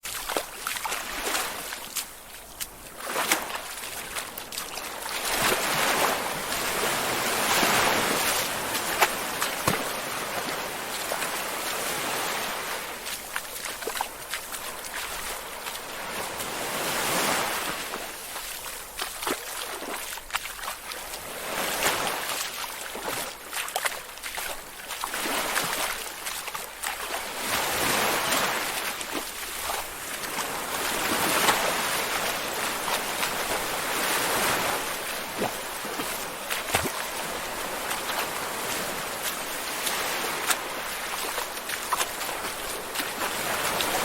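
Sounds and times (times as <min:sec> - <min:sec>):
small splashes and drips: 0:00.0 - 0:06.8, 0:08.2 - 0:11.8, 0:13.0 - 0:15.9, 0:18.2 - 0:21.2, 0:21.8 - 0:27.6, 0:28.4 - 0:33.6, 0:34.6 - 0:44.0
wading through water: 0:00.0 - 0:44.0.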